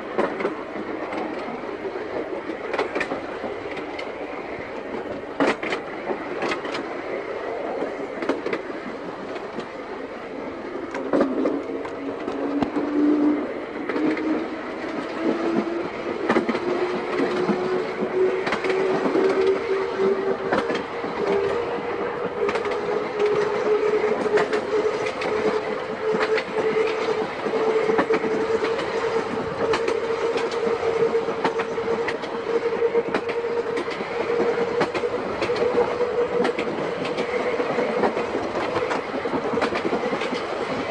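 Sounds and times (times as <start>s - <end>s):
wheels clicking over rail joints: 0.0s - 10.0s, 10.8s - 40.9s.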